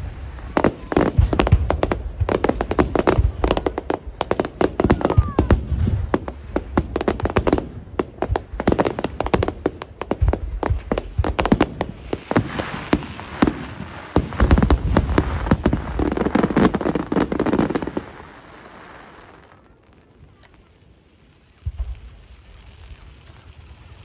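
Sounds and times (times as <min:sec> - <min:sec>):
deep fireworks booms: 0:00.0 - 0:24.0
fireworks bursting and crackling: 0:00.0 - 0:24.0.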